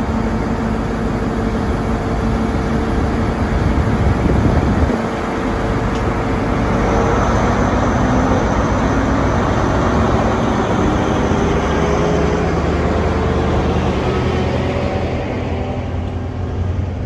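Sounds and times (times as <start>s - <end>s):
train diesel engine drone: 0.0s - 17.0s.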